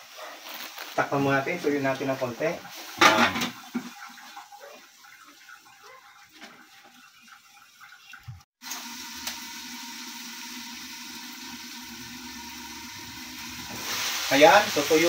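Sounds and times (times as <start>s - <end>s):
meat simmering and sizzling: 0.0s - 15.0s.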